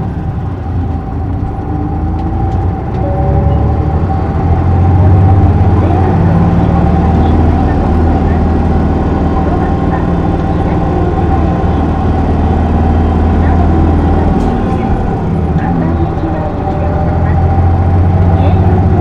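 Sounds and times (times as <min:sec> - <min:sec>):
bus diesel engine drone: 0:00.0 - 0:19.0
thin steady whine: 0:00.0 - 0:19.0
tyre and road noise: 0:00.0 - 0:19.0.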